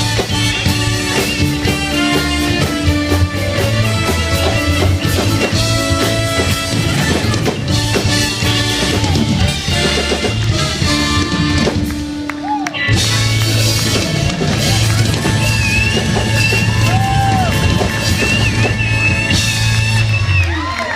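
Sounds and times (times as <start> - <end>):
live band playing loud music: 0.0 - 20.9.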